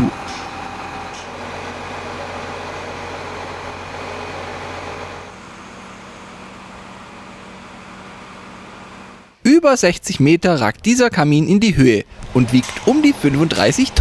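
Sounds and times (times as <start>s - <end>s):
heavy engine running: 0.0s - 9.4s, 12.1s - 14.0s.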